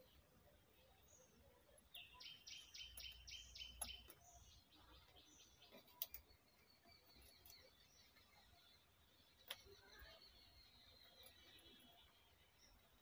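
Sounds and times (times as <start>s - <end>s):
faint bird song: 0.0s - 13.0s.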